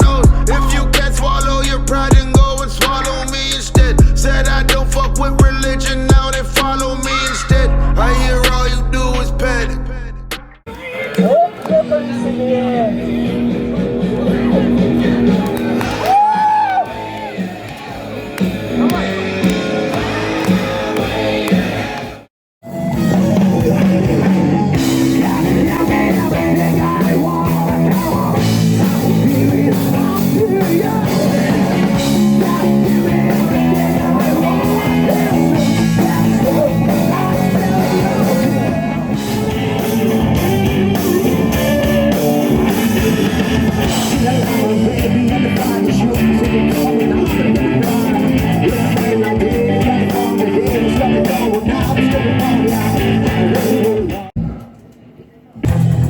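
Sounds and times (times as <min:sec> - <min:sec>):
rock music with guitar and drums: 0:00.0 - 0:10.6, 0:12.0 - 0:54.4, 0:55.6 - 0:56.0.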